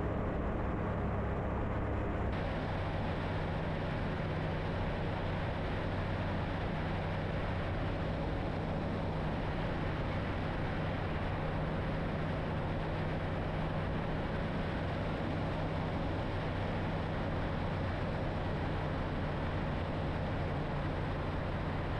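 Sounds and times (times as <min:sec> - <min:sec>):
light aircraft engine droning: 0:00.0 - 0:21.9.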